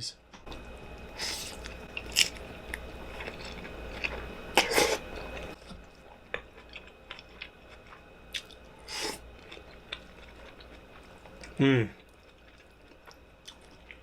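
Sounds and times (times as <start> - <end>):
person chewing food: 1.2 - 14.0.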